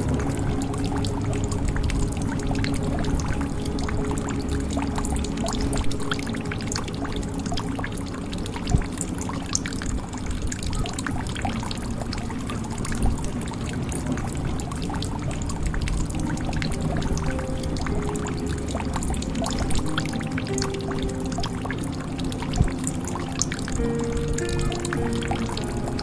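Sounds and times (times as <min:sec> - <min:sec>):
low steady tones: 0:00.0 - 0:26.0
water pouring into a jug: 0:00.0 - 0:26.0.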